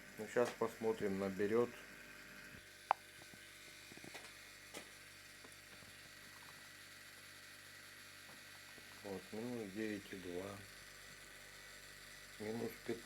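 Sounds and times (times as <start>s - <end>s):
refrigerator compressor humming: 0.0s - 13.0s.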